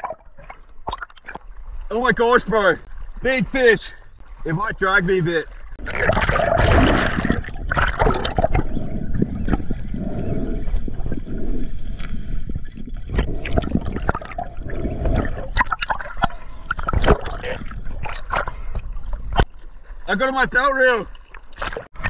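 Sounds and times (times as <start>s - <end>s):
water rushing and gurgling: 0.0s - 22.0s.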